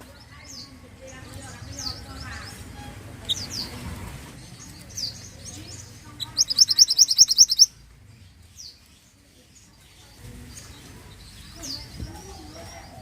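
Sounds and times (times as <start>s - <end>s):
songbird chirping and trilling: 0.0s - 13.0s.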